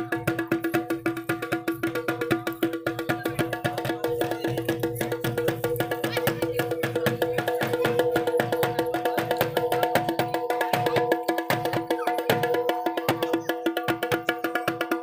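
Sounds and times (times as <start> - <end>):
fast drum strokes: 0.0 - 15.0.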